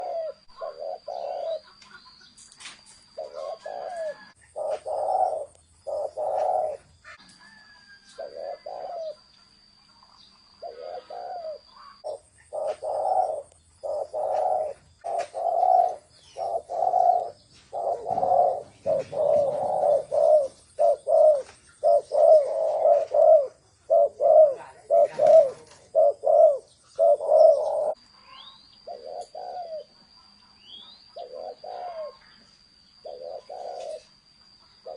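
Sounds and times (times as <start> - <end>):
dove cooing: 0.0 - 2.1, 3.1 - 9.3, 10.6 - 28.0, 28.8 - 30.0, 30.7 - 32.4, 33.0 - 34.2
faint high steady tone: 0.0 - 34.9.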